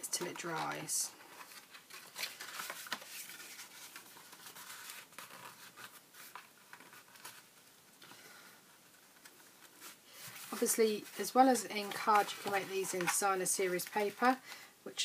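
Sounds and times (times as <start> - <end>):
card stock rustling and scraping: 0.1 - 7.6, 8.8 - 14.5.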